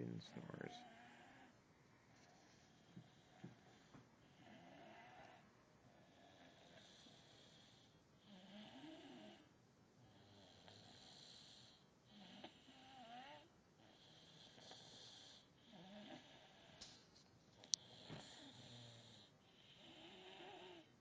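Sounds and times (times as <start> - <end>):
child snoring faintly: 0.0 - 1.6, 2.2 - 16.9, 17.6 - 21.0.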